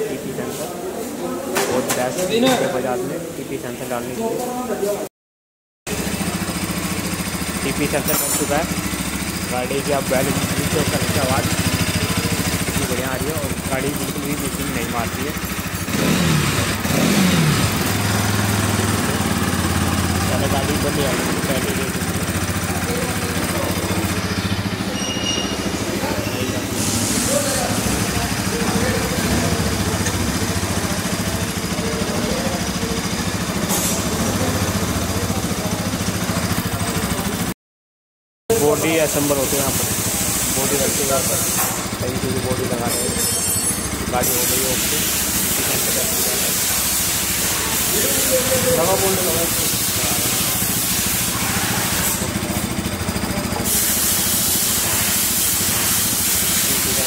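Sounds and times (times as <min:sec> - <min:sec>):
motorcycle engine idling: 0:05.9 - 0:37.5, 0:38.5 - 0:57.0.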